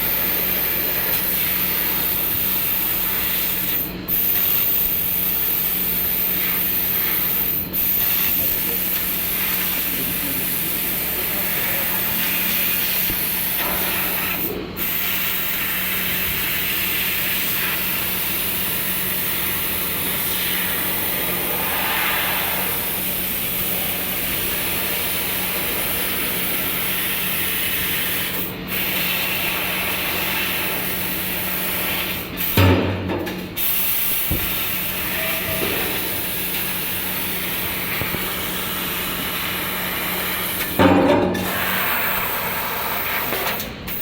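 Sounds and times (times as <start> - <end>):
laser cutter jet hissing: 0.0 - 44.0.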